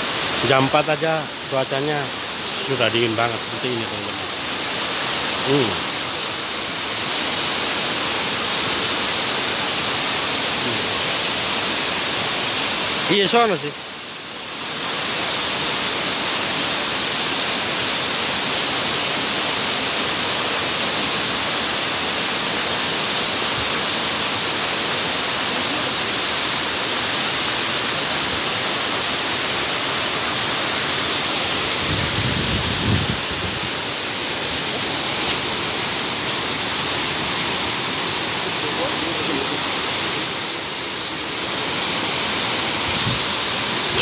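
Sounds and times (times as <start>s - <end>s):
waterfall water rushing: 0.0s - 44.0s.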